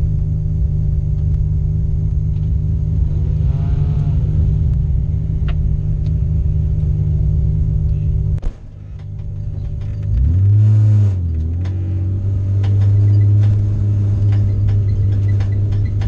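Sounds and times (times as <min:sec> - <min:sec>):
race car engine idling: 0:00.0 - 0:10.4, 0:11.2 - 0:16.0
engine revving: 0:00.0 - 0:16.0.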